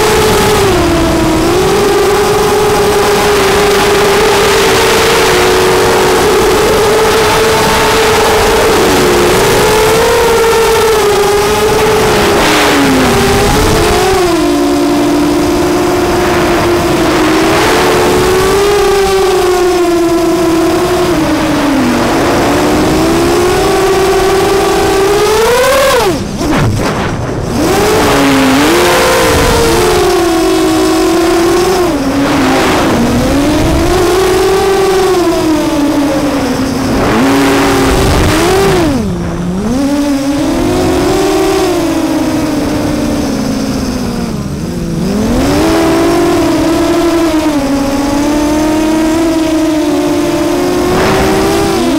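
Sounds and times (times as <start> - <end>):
drone motors whining: 0.0 - 51.9.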